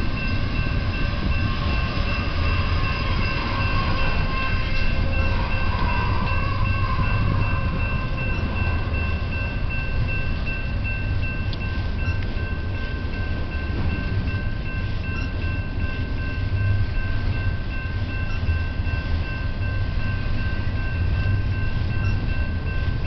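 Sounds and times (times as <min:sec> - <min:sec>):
railroad crossing bell ringing: 0:00.0 - 0:23.0
train cars rumbling past: 0:00.0 - 0:23.0.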